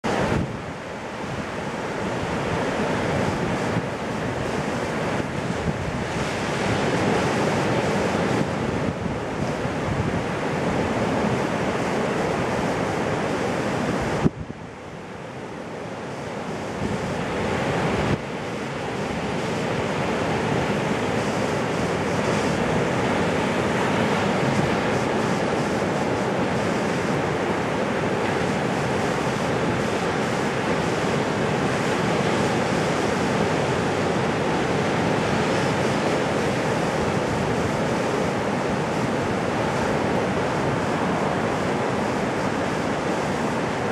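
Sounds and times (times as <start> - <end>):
wind buffeting microphone: 0.0 - 14.8, 16.0 - 43.9
ocean surf breaking: 0.0 - 43.9.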